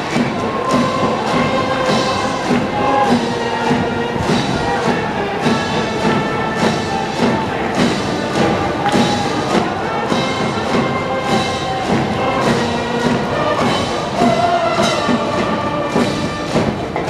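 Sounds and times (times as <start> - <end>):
brass band playing: 0.0 - 17.0
steady drum beat: 0.0 - 17.0.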